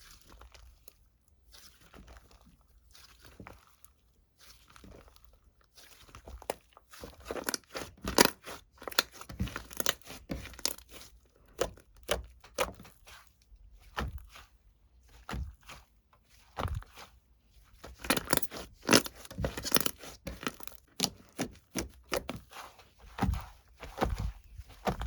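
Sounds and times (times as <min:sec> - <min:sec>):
crinkling and crackling snaps: 0:00.0 - 0:14.4, 0:15.1 - 0:22.5, 0:23.1 - 0:25.0.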